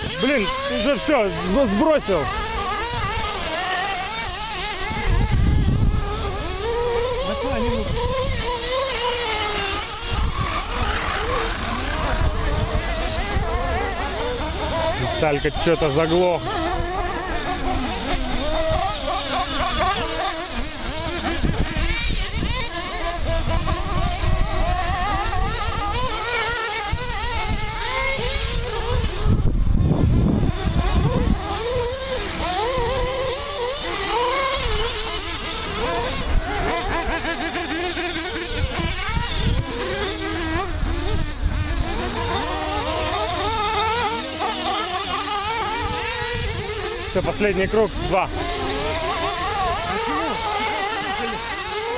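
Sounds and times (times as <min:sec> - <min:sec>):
rc car engines buzzing and revving: 0:00.0 - 0:51.9.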